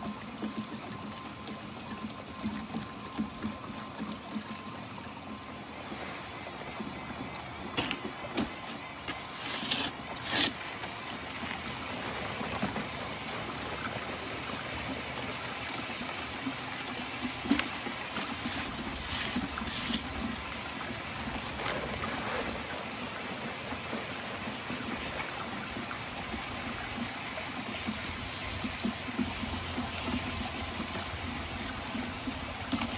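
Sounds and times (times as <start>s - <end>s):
hose spraying water: 5.2s - 7.1s, 8.2s - 32.9s.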